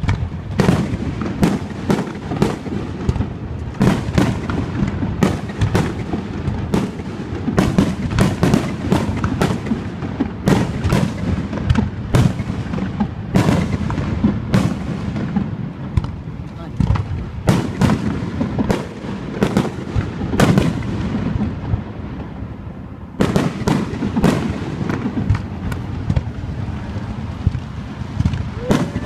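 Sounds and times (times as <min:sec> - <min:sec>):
fireworks bangs and crackles: 0:00.0 - 0:29.0
low rumble of echoing booms: 0:00.0 - 0:29.0.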